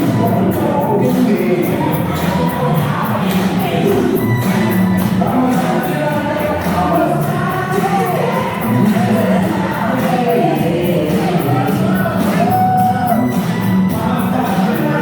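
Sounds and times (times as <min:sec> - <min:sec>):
song with vocals over a beat: 0:00.0 - 0:15.0.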